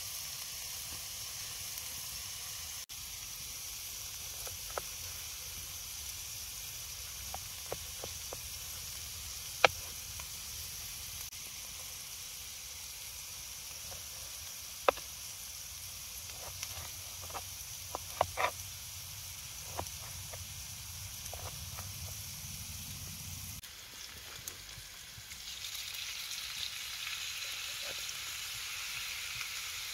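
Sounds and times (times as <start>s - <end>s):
food sizzling in a pan: 0.0s - 29.9s.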